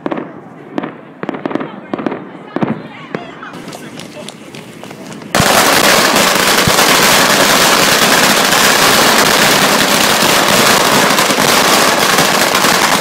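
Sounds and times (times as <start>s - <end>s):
firecrackers going off: 0.0s - 13.0s.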